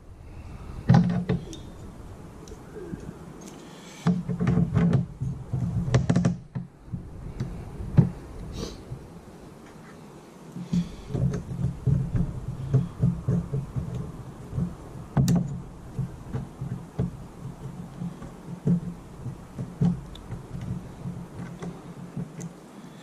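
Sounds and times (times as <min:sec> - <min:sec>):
dull knocks and handling noise: 0:00.8 - 0:22.8.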